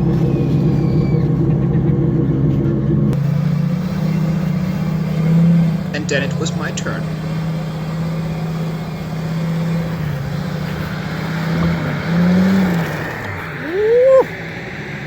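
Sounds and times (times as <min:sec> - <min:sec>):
car engine running and revving: 0:00.0 - 0:15.0.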